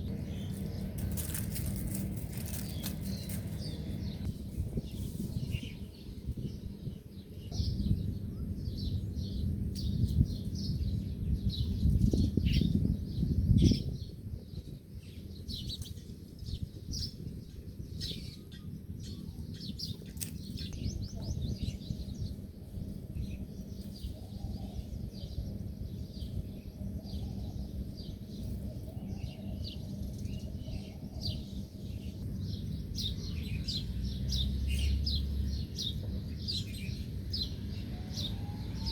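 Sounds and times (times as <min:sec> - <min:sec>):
low rumbling noise: 0:00.0 - 0:38.9
small birds chirping: 0:00.0 - 0:38.9.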